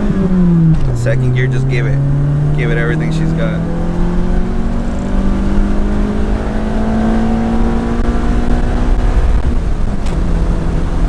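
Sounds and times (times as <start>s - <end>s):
car engine revving from inside cabin: 0.0s - 11.0s.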